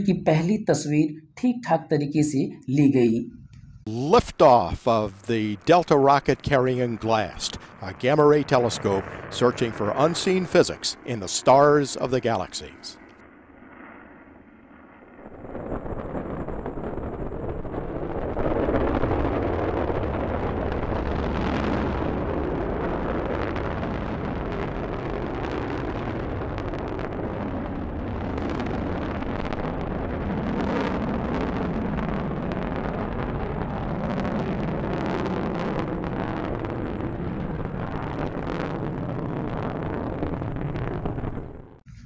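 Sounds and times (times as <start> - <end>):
rocket engine rushing and crackling: 3.4 - 13.2, 15.1 - 42.0.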